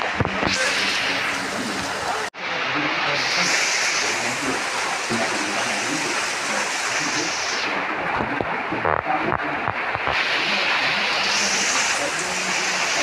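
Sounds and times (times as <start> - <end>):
water running and splashing: 0.0 - 13.0.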